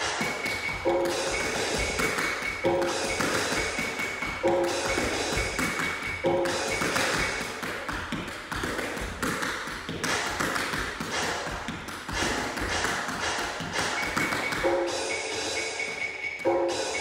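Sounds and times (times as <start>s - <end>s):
tap shoes on hard floor: 0.2s - 14.8s.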